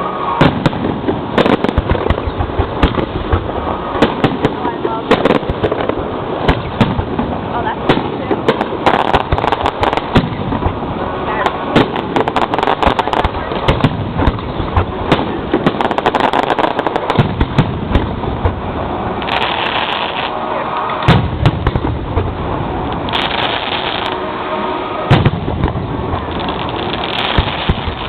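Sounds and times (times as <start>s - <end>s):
fireworks bangs and crackles: 0.0s - 28.0s
heavy firework booms: 0.3s - 19.9s, 21.1s - 23.8s, 25.1s - 28.0s.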